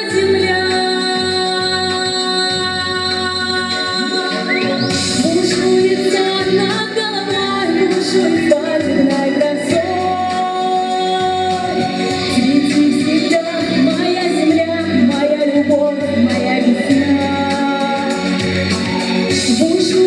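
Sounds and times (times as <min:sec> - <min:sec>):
instrumental accompaniment: 0:00.0 - 0:20.0
person singing: 0:00.0 - 0:20.0.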